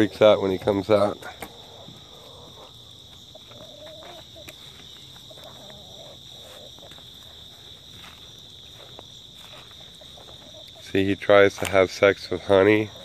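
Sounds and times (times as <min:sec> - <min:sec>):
chickens clucking: 0:00.0 - 0:13.0
insect chorus drone: 0:00.0 - 0:13.0.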